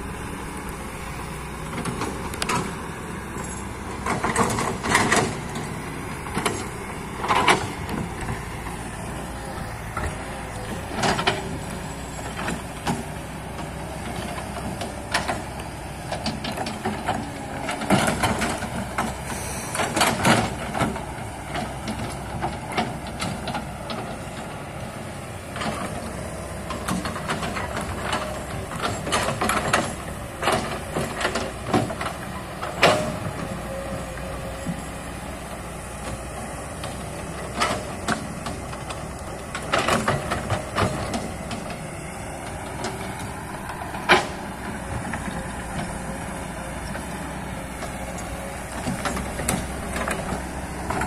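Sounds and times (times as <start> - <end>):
excavator diesel engine running: 0.0 - 51.0.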